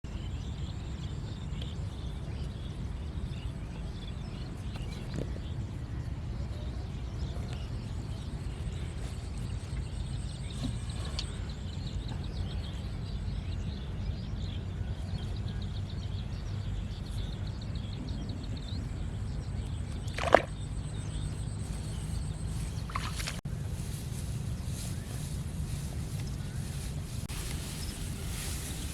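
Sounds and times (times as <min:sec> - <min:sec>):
steady low rumble: 0:00.1 - 0:28.9.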